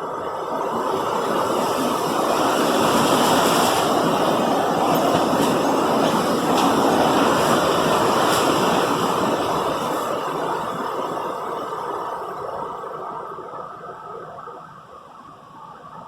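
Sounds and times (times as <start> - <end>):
storm wind gust rushing: 0.0 - 14.0.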